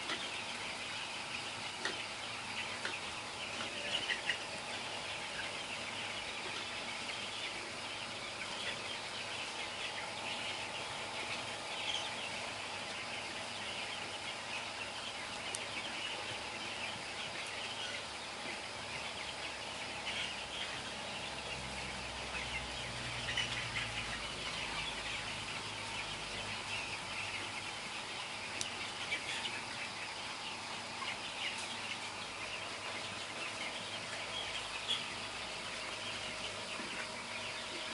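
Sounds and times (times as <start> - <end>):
chickens peeping: 0.0 - 37.9.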